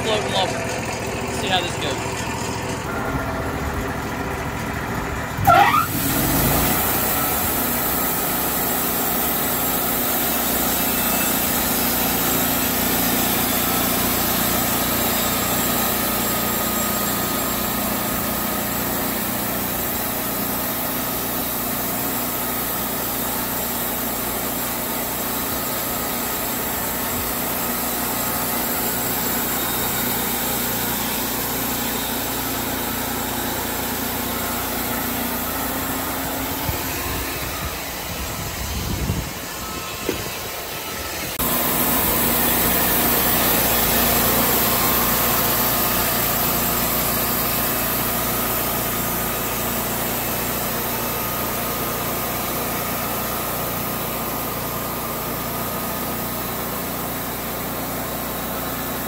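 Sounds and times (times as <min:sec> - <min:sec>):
bandsaw sawmill cutting log: 0:00.0 - 0:59.0.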